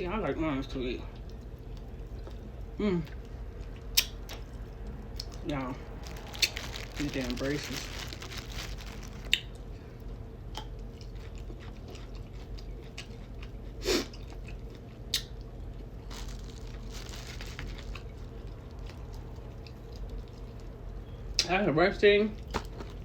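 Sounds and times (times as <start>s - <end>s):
chewing with mouth smacking: 1.1s - 21.5s.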